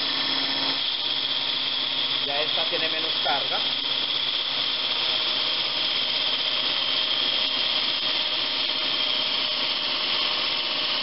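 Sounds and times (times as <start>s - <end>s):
wood lathe drilling: 0.0s - 11.0s.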